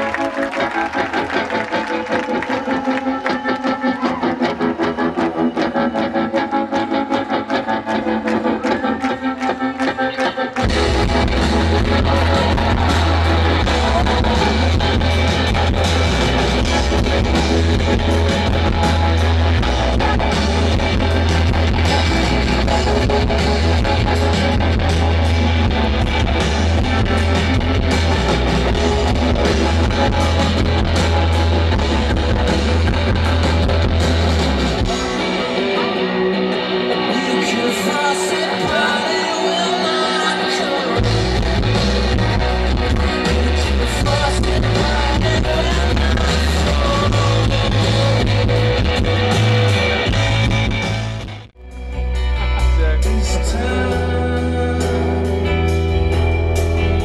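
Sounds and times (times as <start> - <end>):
rock band playing: 0.0 - 57.0
heavy bass: 4.0 - 57.0.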